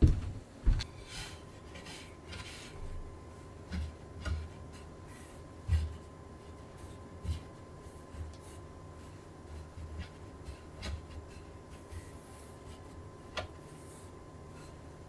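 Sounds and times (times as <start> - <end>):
rubbing and scraping strokes: 0.9 - 15.0.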